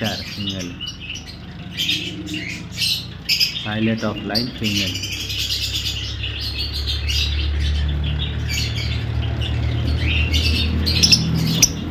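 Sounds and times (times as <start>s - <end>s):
lovebirds chirping and squawking: 0.0s - 11.9s.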